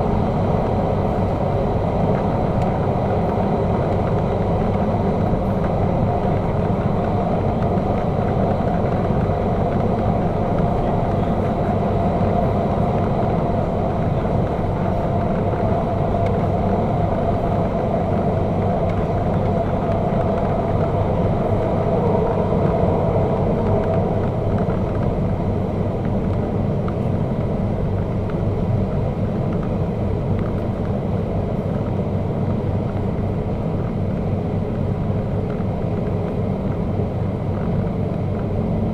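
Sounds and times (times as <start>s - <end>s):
train rumble in tunnel: 0.0s - 38.9s.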